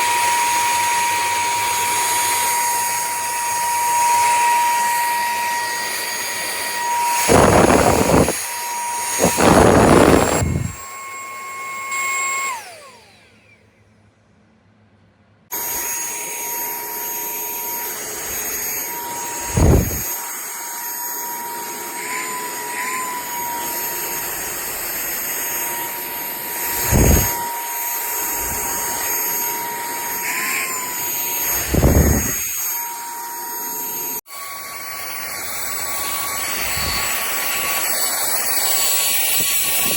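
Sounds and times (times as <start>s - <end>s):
handheld vacuum motor whine: 0.0s - 13.8s, 15.5s - 39.9s.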